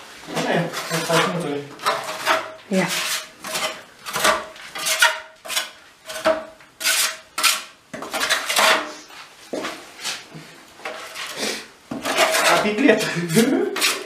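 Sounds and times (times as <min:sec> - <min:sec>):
metal trowel scraping wall: 0:00.3 - 0:09.1, 0:10.8 - 0:14.0.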